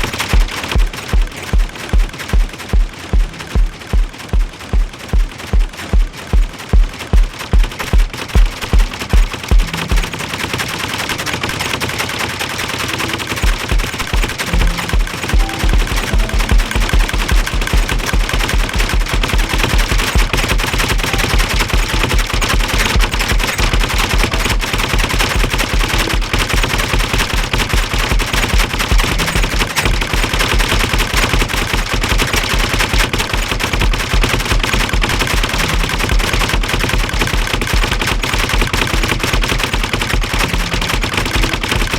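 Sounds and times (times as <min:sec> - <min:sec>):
noise machine rattling: 0:00.0 - 0:41.9.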